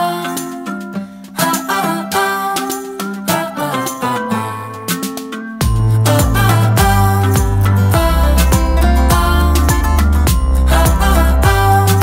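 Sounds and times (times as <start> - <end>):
plucked string tune: 0.0 - 12.0.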